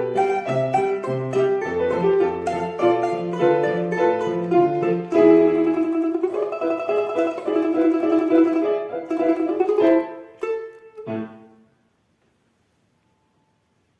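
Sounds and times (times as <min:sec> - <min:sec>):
plucked string instrument: 0:00.0 - 0:11.6
piano accompaniment: 0:00.0 - 0:11.8.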